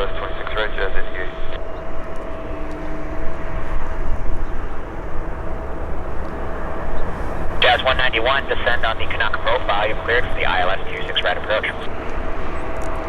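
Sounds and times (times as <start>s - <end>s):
jet engine rumble with whine: 0.0s - 13.0s.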